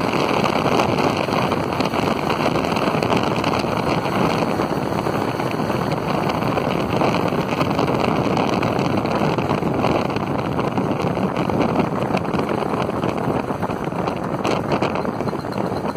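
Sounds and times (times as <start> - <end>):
motorcycle engine running: 0.0 - 15.9
wind rushing over microphone: 0.0 - 15.9.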